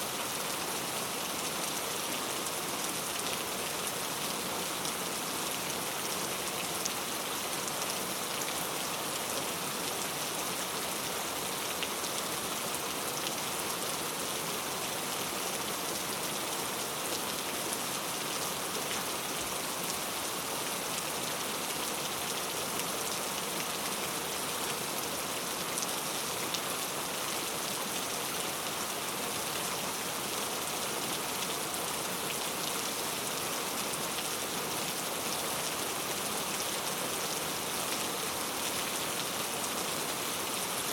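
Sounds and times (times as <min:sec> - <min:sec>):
rain patter: 0:00.1 - 0:40.9.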